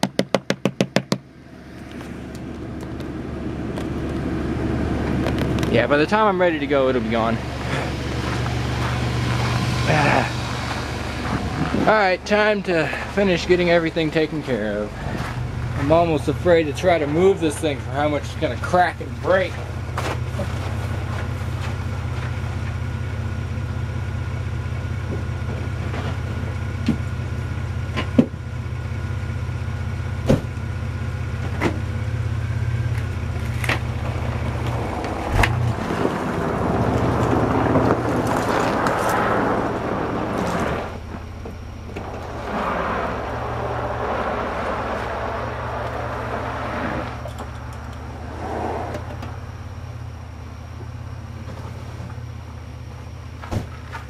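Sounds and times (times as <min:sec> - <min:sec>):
car engine idling: 0:00.0 - 0:54.0
truck driving over snow and ice: 0:00.0 - 0:54.0.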